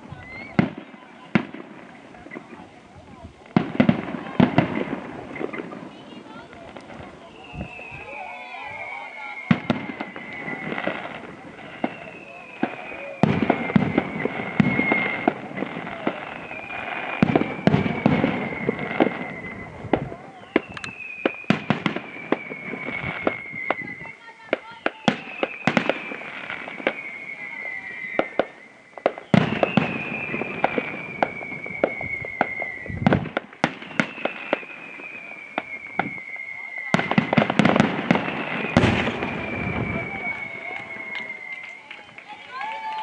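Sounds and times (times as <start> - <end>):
fireworks bursting with bangs: 0.0 - 43.0
steady high whistle: 0.1 - 1.0, 7.2 - 42.8.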